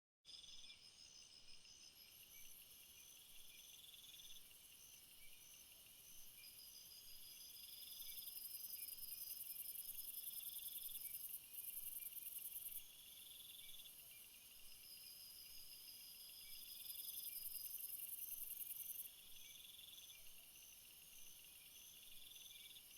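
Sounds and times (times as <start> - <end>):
insect chirps: 0.3 - 22.9
low pulsing insect trill: 0.3 - 22.9.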